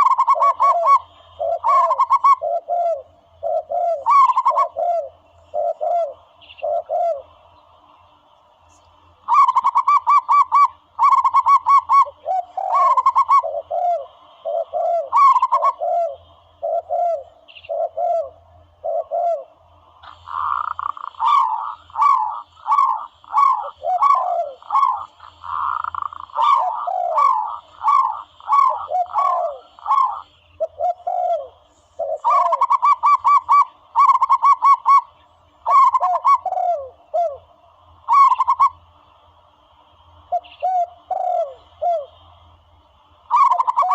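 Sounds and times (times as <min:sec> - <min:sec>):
doves cooing: 0:00.0 - 0:07.5, 0:09.2 - 0:39.3, 0:40.2 - 0:42.4, 0:43.2 - 0:43.9.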